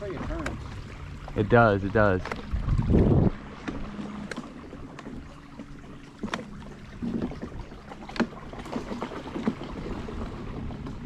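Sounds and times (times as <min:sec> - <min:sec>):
water rushing around hull: 0:00.0 - 0:11.0.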